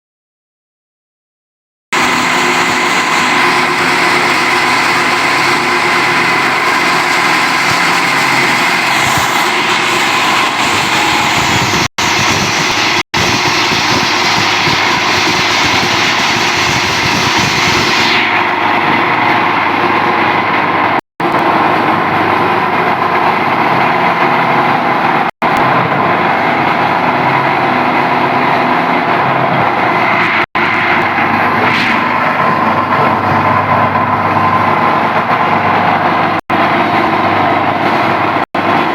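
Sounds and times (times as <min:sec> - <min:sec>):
plastic granulator grinding: 0:02.0 - 0:38.9.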